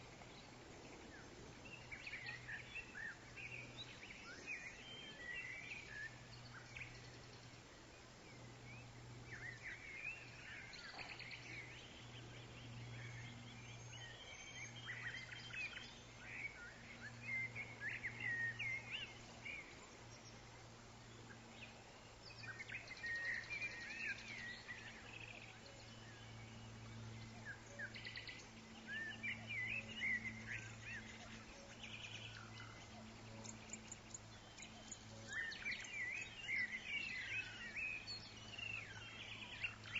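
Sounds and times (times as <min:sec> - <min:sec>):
faint low hum: 0:00.0 - 0:39.9
songbirds chirping: 0:00.0 - 0:39.9.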